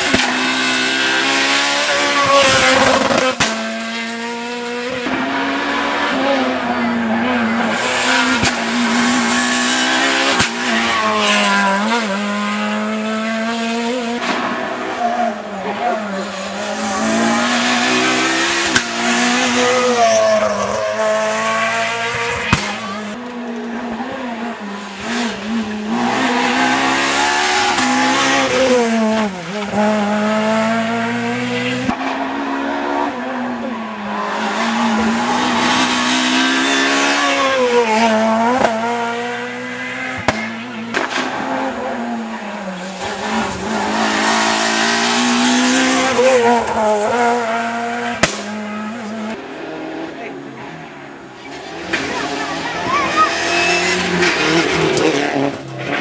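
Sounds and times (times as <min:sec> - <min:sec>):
rally cars accelerating past: 0:00.0 - 0:56.0.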